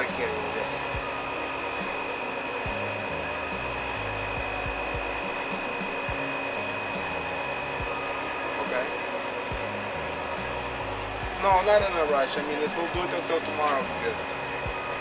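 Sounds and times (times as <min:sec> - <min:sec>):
blowing machine noise: 0:00.0 - 0:15.0
thin high whine: 0:00.0 - 0:15.0.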